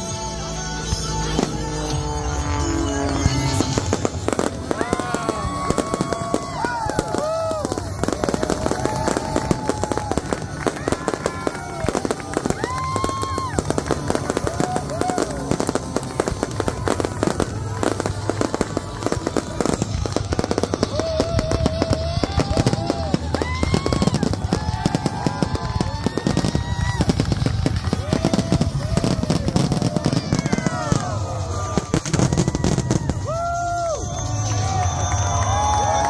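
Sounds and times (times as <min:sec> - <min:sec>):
fireworks bangs and crackles: 0:00.0 - 0:36.0
gliding fireworks tones: 0:00.0 - 0:36.0.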